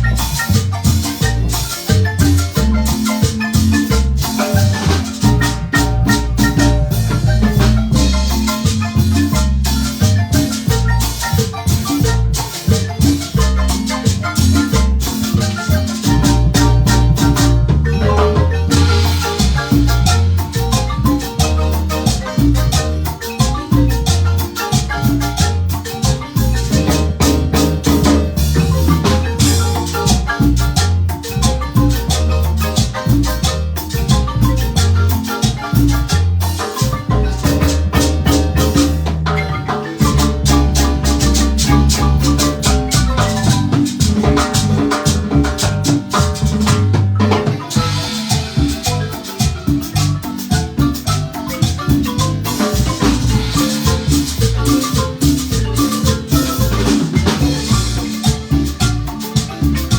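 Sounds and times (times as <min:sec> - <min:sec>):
marimba ensemble dance music: 0:00.0 - 0:59.9.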